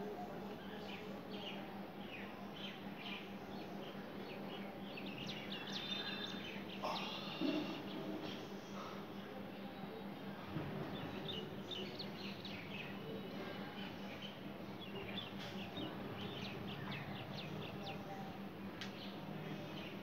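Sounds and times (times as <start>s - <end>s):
small birds chirping: 0.5s - 8.0s, 10.8s - 20.0s.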